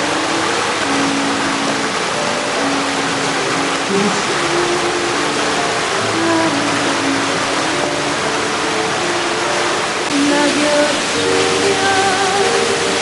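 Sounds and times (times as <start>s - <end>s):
music of held melodic notes: 0.0s - 13.0s
stream rushing over rocks: 0.0s - 13.0s.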